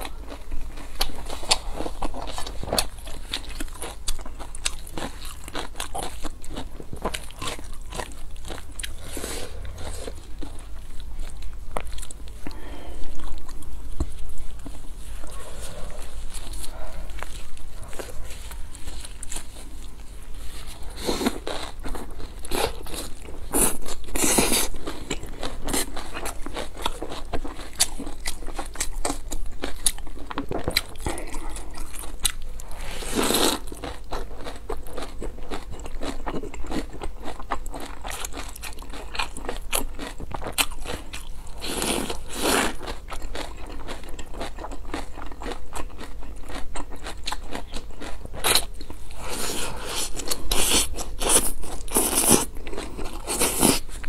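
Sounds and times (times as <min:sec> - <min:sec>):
crunchy chewing: 0:00.0 - 0:54.0.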